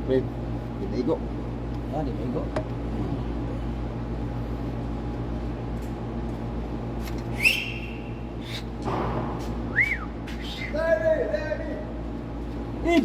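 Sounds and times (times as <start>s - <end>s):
shop machinery humming: 0.0s - 13.0s.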